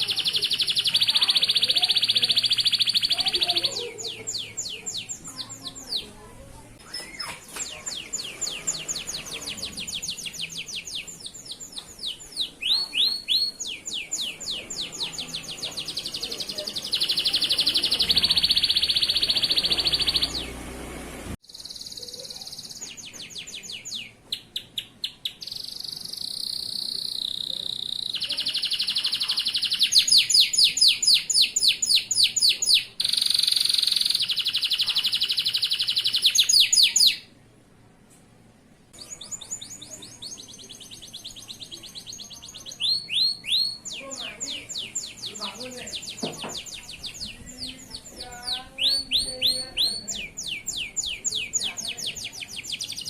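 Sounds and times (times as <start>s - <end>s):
canary singing trills: 0.0s - 37.4s, 39.0s - 53.0s.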